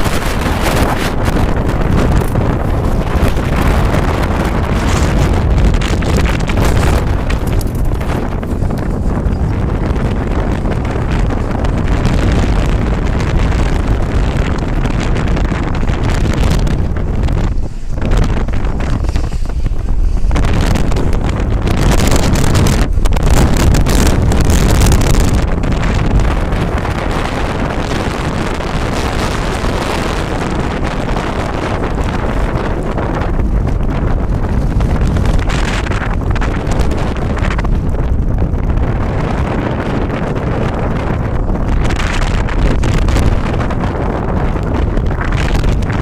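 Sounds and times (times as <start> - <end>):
storm wind buffeting microphone: 0.0 - 46.0.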